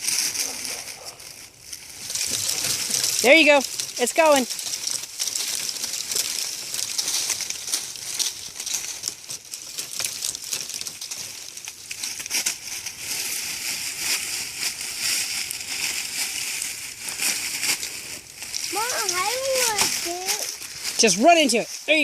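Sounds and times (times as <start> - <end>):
tree branches crackling and snapping: 0.0 - 22.0.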